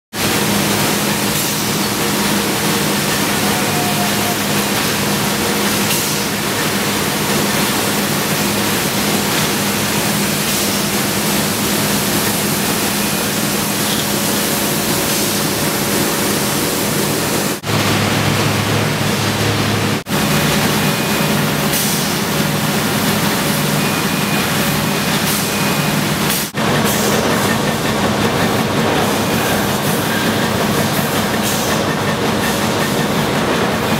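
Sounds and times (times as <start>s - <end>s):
factory machinery and conveyors: 0.2s - 33.9s.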